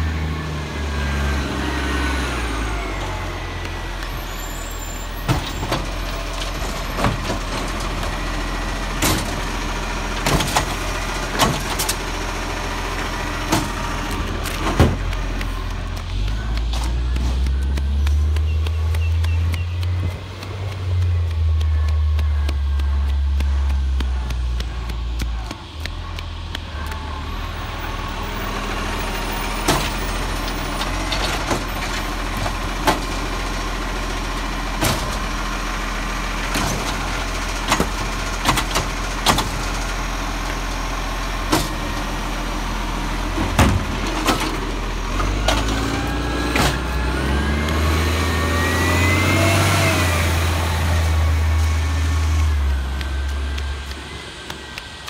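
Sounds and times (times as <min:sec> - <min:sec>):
garbage truck engine rumble: 0:00.0 - 0:55.0
truck engine whine: 0:00.0 - 0:55.0.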